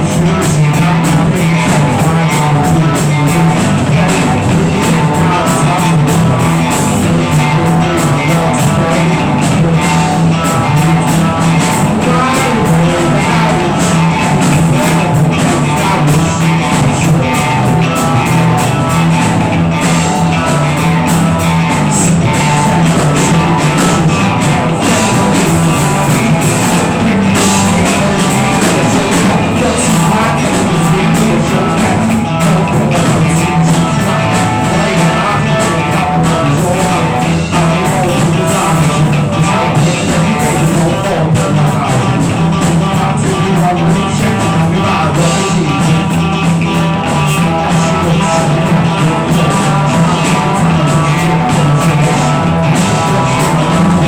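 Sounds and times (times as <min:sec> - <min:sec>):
rock band jamming: 0:00.0 - 0:54.0.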